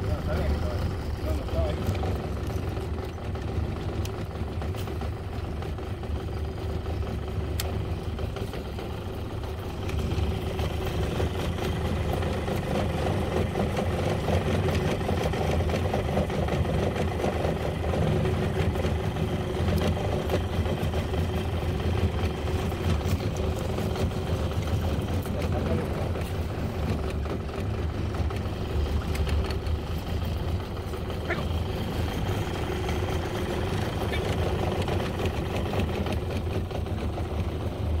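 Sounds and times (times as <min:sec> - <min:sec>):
outboard motor running: 0:00.0 - 0:38.0.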